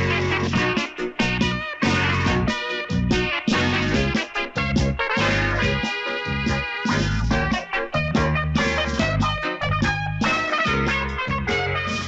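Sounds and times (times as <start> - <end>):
instrumental film music with beat: 0.0 - 12.0.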